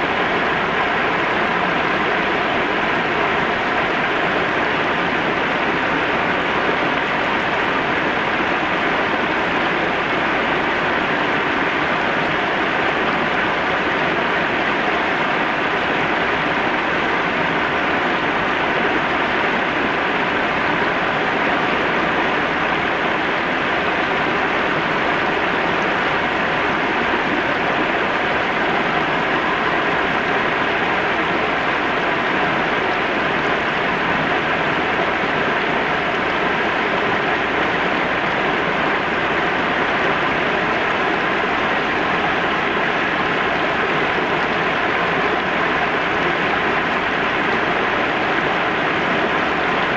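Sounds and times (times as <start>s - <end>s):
river water rushing over rapids: 0.0s - 49.9s.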